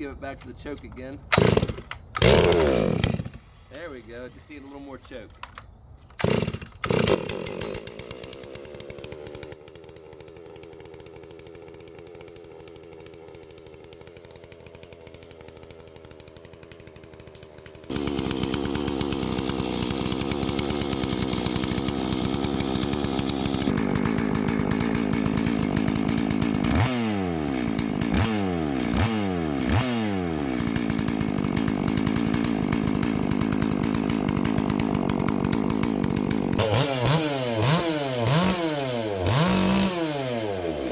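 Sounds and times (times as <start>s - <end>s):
chainsaw idling and revving: 1.3s - 5.2s, 6.2s - 40.9s.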